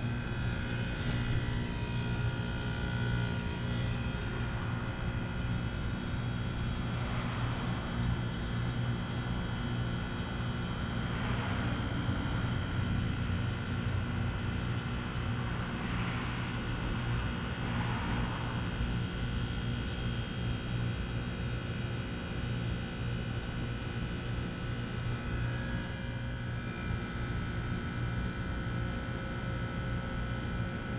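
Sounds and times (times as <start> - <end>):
heat pump humming: 0.0 - 30.9.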